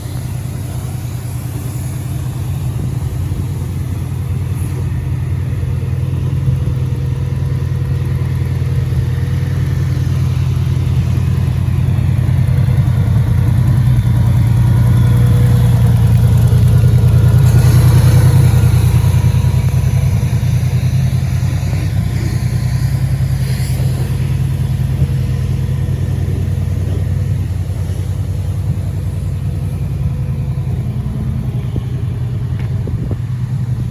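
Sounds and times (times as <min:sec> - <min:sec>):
engine running low note: 0:00.0 - 0:33.9.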